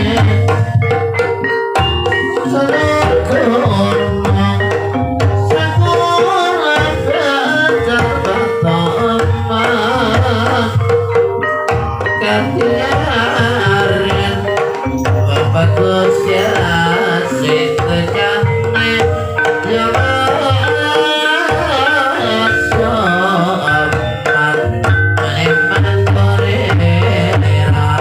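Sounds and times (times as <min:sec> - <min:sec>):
gamelan instruments: 0:00.0 - 0:28.0
hand drums beating: 0:00.0 - 0:28.0.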